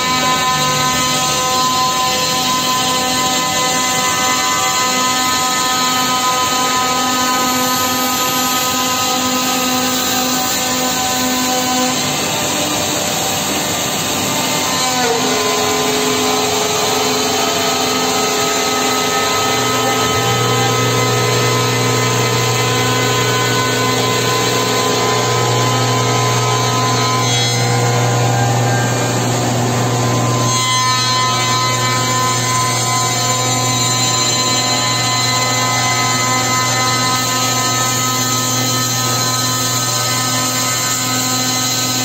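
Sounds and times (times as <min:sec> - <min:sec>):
machine spindles whining: 0:00.0 - 0:42.0
wood cutting noise: 0:00.0 - 0:42.0.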